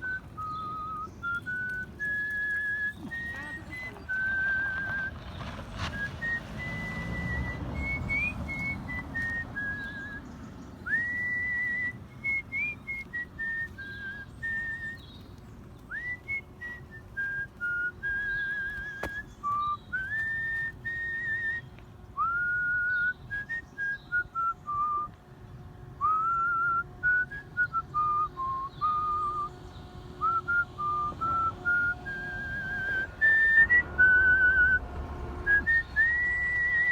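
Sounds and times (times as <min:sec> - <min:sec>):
person whistling a melody: 0:00.0 - 0:05.1, 0:06.0 - 0:10.2, 0:10.9 - 0:15.0, 0:15.9 - 0:25.1, 0:26.0 - 0:29.5, 0:30.2 - 0:34.8, 0:35.5 - 0:36.9.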